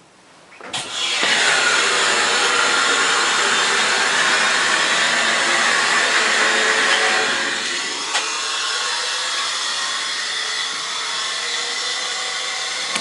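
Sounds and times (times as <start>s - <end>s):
hydraulic pump motor whine: 0.7s - 13.0s.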